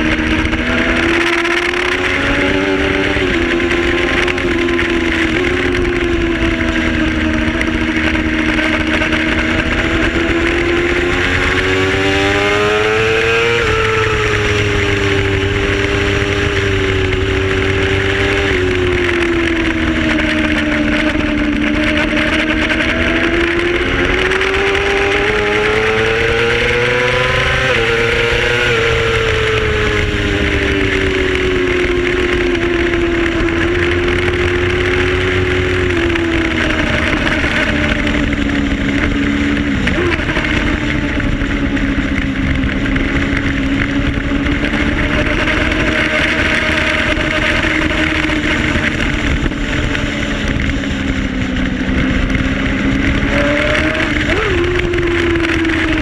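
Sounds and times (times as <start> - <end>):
motorcycle engine pulling through gears: 0.0 - 56.0
wind noise: 0.0 - 56.0.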